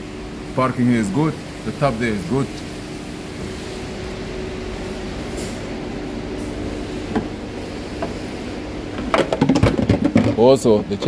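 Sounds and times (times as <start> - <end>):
steady hum with faint tone: 0.0 - 11.0.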